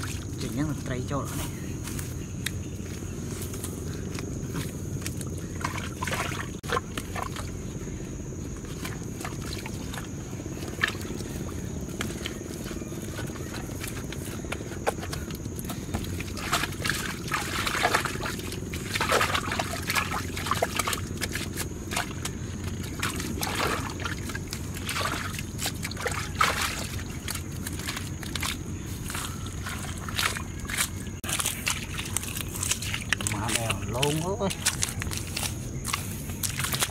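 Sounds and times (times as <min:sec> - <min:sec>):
hands slapping wet mud: 0:04.1 - 0:07.6, 0:08.6 - 0:36.9.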